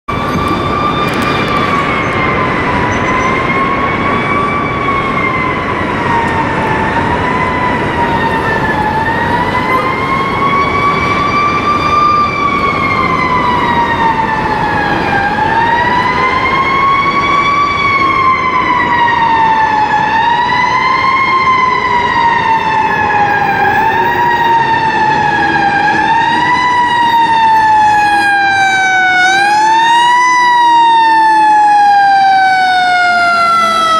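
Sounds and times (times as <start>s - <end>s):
fire engine siren wailing: 0.1s - 33.9s
truck rumble and road noise: 0.1s - 33.9s.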